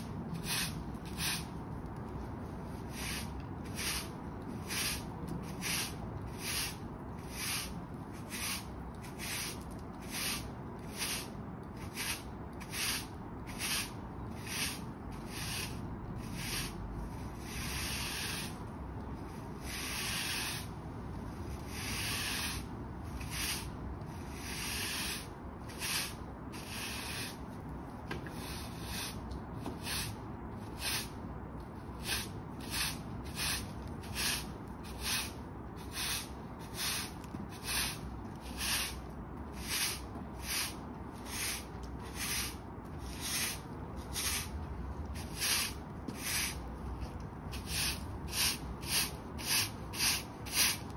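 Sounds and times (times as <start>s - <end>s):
broom sweeping concrete: 0.0s - 50.9s.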